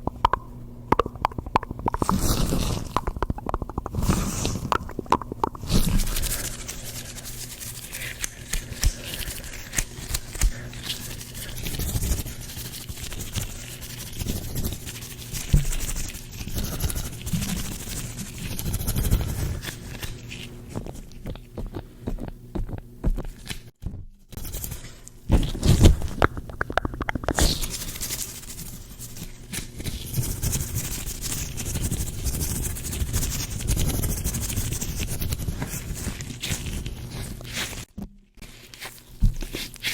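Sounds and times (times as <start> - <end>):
gloved hands rubbing together: 1.0 - 21.2, 24.4 - 39.9.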